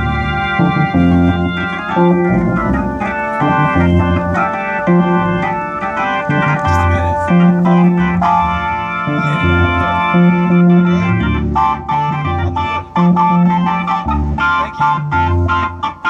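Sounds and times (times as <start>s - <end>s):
low bass line: 0.0s - 16.0s
organ-like keyboard chords: 0.0s - 16.0s.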